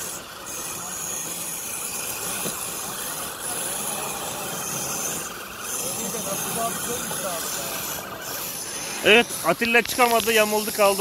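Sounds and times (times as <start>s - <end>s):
small electric motors whirring: 0.0s - 11.0s
steady hiss: 0.0s - 11.0s.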